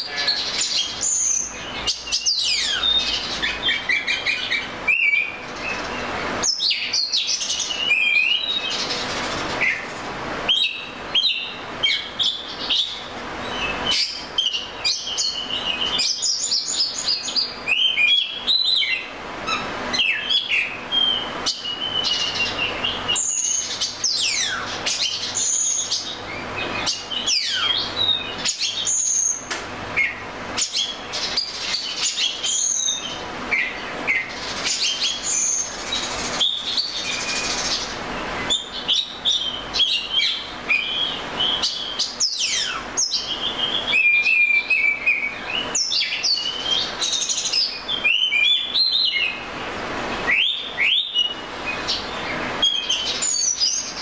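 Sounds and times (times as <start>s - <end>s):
songbird singing whistles: 0.0s - 8.8s, 10.5s - 37.8s, 38.4s - 49.4s, 50.3s - 54.0s.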